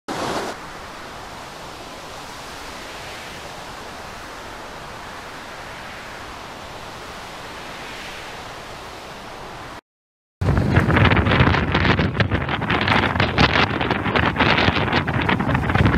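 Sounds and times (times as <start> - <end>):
sea rushing: 0.1 - 9.8, 10.4 - 15.9
storm wind: 0.1 - 9.8, 10.4 - 15.9.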